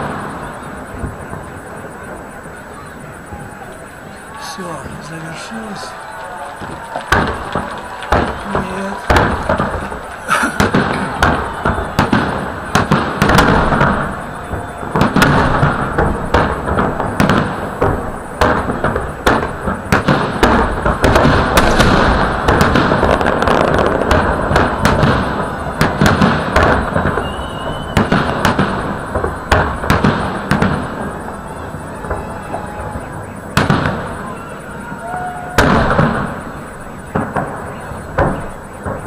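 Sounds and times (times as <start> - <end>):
fireworks bursting: 0.0 - 39.0
rumble of explosions: 0.0 - 39.0.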